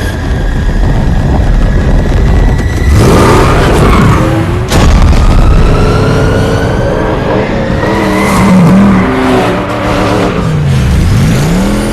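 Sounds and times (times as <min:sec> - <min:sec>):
engine revving with whine: 0:00.8 - 0:11.9.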